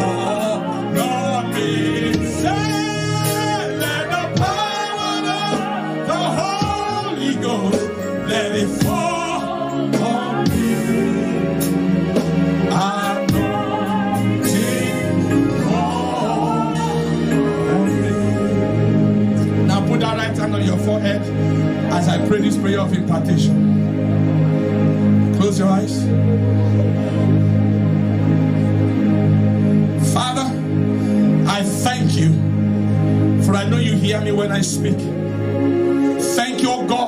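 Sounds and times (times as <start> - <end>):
instrumental accompaniment: 0.0 - 37.0.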